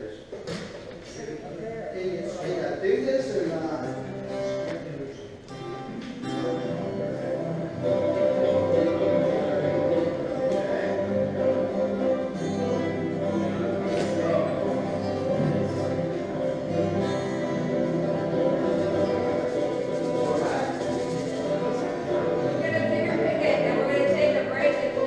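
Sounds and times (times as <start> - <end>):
acoustic guitars playing folk song: 2.1 - 25.0.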